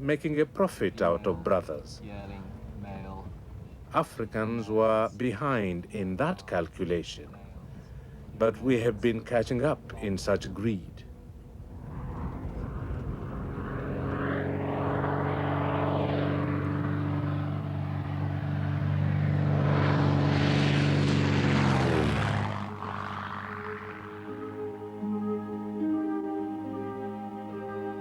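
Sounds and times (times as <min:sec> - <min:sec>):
propeller aircraft engine droning: 0:00.0 - 0:28.0.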